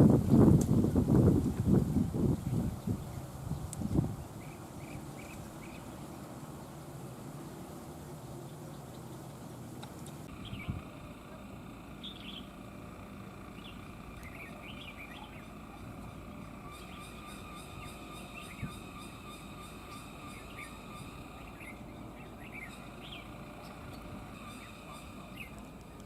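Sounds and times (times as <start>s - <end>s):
outdoor background hiss: 0.0s - 26.0s
birds chirping: 2.3s - 26.0s.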